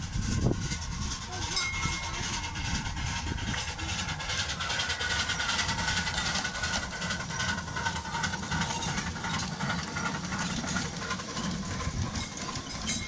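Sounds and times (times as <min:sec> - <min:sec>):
miniature steam locomotive running: 0:00.0 - 0:13.0.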